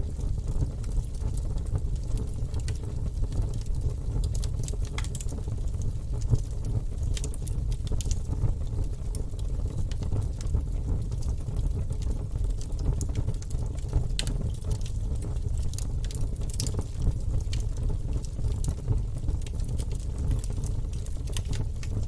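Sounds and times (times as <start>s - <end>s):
burning logs crackling and popping: 0.0s - 22.0s
low roar of flames: 0.1s - 22.0s.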